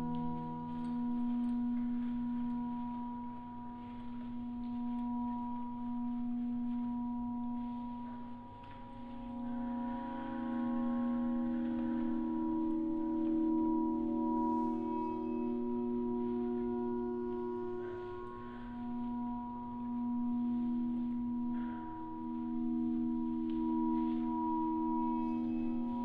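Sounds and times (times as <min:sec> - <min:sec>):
ambient drone music with ringing tones: 0:00.0 - 0:26.0.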